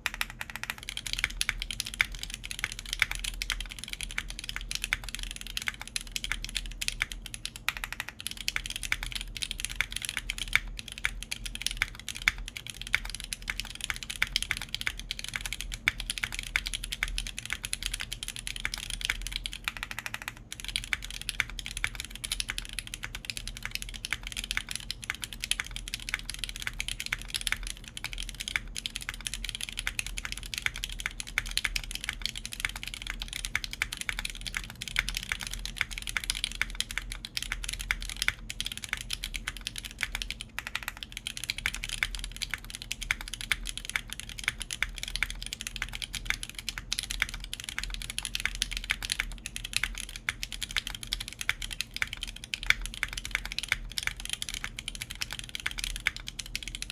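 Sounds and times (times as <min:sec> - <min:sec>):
mechanical keyboard typing: 0:00.0 - 0:56.9.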